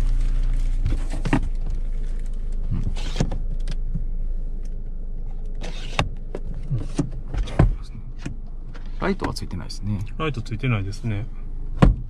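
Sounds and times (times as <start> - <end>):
low hum inside car cabin: 0.0 - 12.0.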